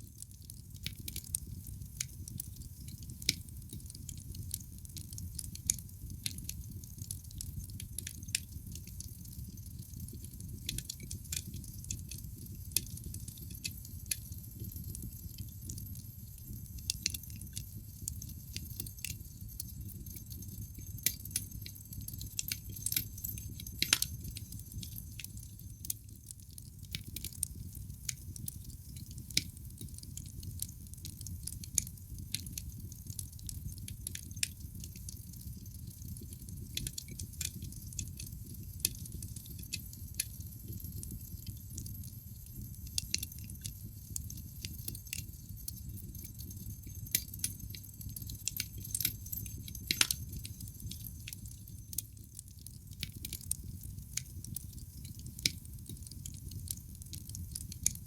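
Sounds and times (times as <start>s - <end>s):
logs crackling and popping: 0.2s - 58.0s.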